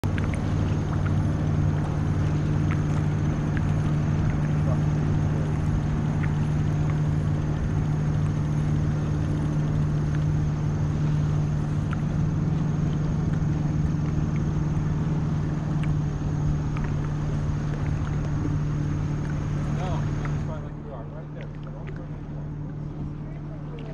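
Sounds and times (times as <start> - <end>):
boat motor humming: 0.0 - 23.9
water rushing along hull: 0.0 - 23.9.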